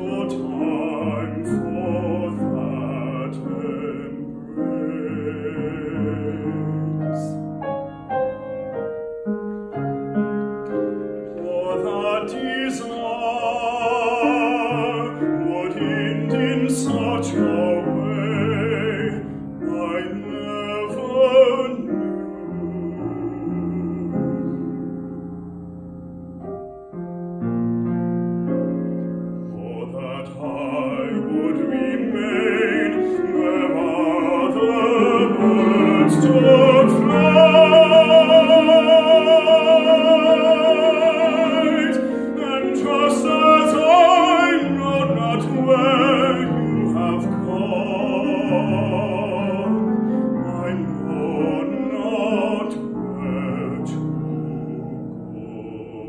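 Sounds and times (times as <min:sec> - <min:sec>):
bass-baritone singing: 0:00.0 - 0:07.6, 0:11.2 - 0:25.2, 0:29.5 - 0:56.0
grand piano accompaniment: 0:00.0 - 0:56.0.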